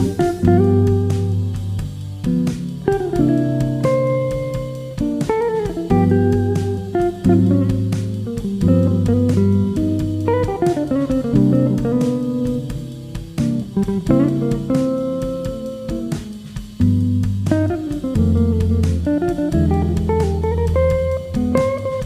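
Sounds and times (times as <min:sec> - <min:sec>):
bass: 0:00.0 - 0:22.0
plucked guitar: 0:00.0 - 0:22.0.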